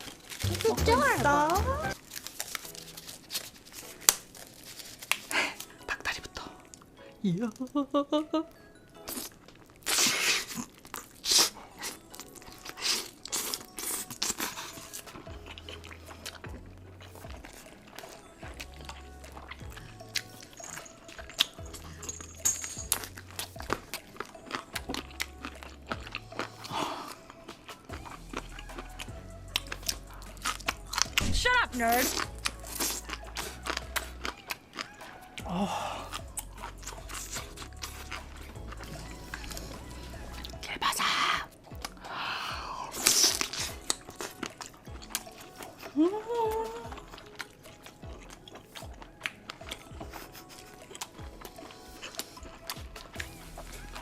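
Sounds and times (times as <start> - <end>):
crunching chewing on chicken: 0.0 - 1.1, 1.9 - 6.9, 9.0 - 31.2, 31.9 - 54.0.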